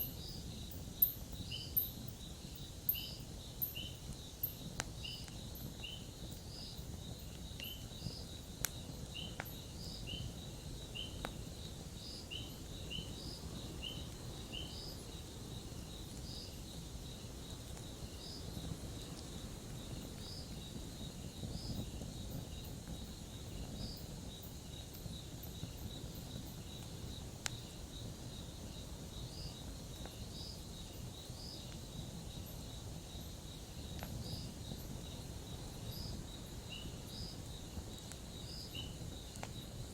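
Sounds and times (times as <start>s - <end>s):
campfire crackling: 0.0s - 39.9s
insects chirping: 0.0s - 39.9s.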